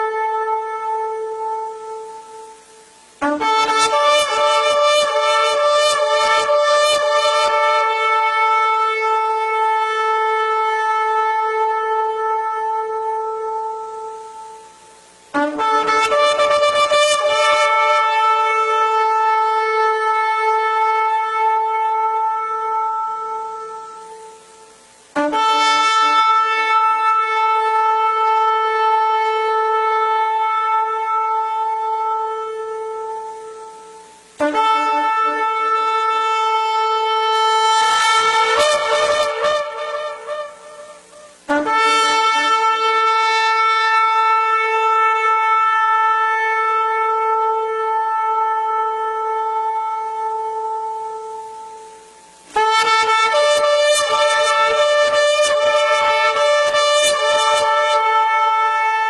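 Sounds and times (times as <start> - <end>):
long horn blasts: 0.0 - 59.0.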